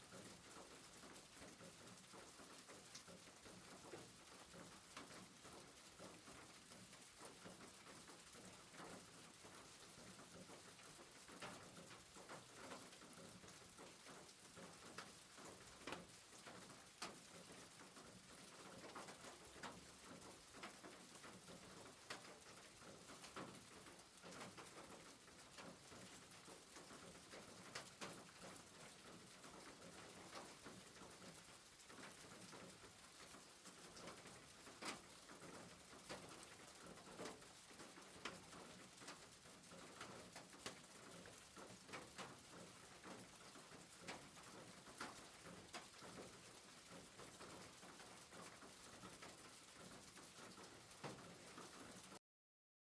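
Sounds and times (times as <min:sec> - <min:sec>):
rain hissing on a rooftop: 0:00.0 - 0:52.2.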